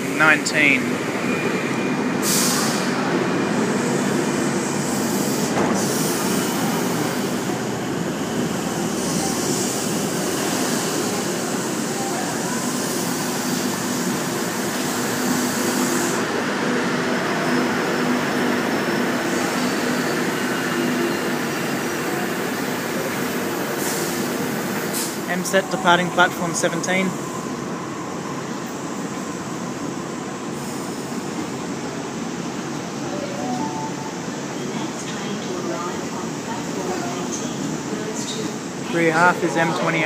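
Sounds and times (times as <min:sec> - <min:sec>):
electric train rolling rumble: 0:00.0 - 0:40.0
low hum of train equipment: 0:00.0 - 0:40.0.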